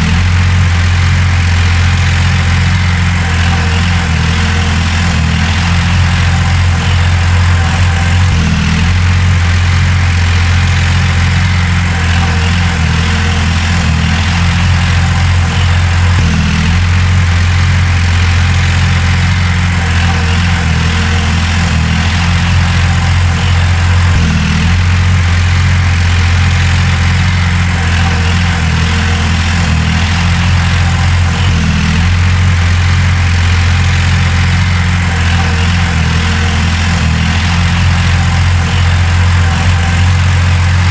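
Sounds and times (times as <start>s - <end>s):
heavy diesel engine droning: 0.0s - 40.9s.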